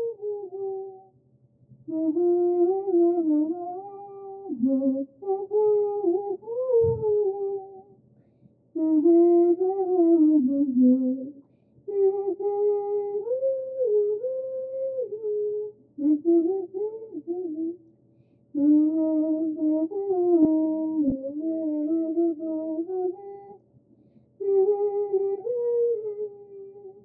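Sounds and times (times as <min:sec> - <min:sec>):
woman humming slow melody: 0:00.0 - 0:01.1, 0:01.9 - 0:07.9, 0:08.8 - 0:17.8, 0:18.6 - 0:23.6, 0:24.4 - 0:27.0.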